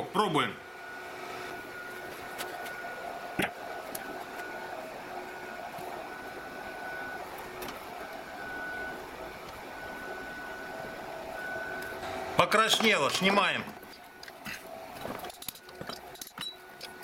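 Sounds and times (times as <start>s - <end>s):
induction heater high whine: 0.0s - 17.0s.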